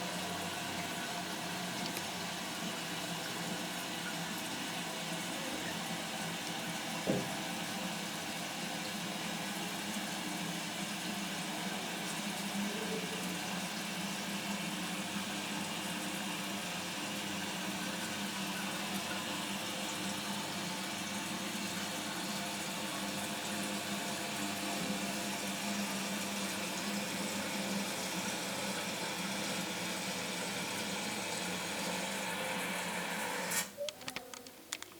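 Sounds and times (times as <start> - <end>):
water running into toilet tank: 0.0 - 33.6.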